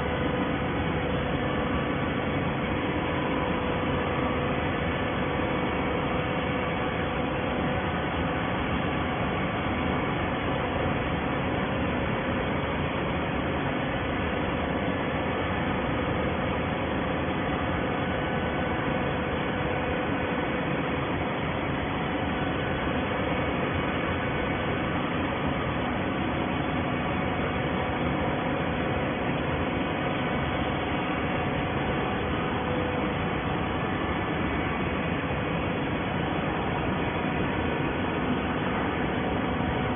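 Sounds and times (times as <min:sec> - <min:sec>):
baler machine humming and hissing: 0:00.0 - 0:39.9.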